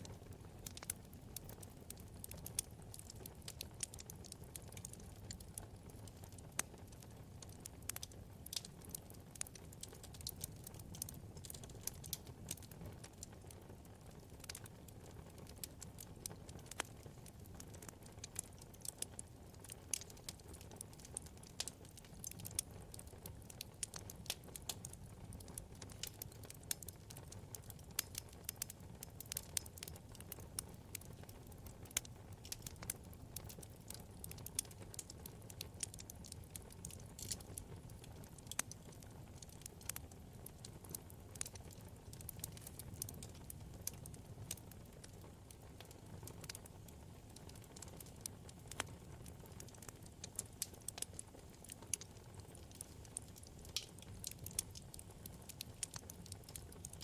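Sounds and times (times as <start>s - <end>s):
fire rumbling: 0.0s - 57.0s
logs crackling and popping: 0.0s - 57.0s.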